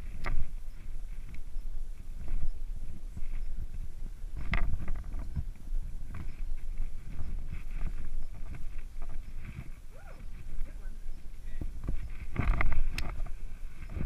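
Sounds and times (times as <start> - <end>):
low microphone rumble: 0.0 - 14.0.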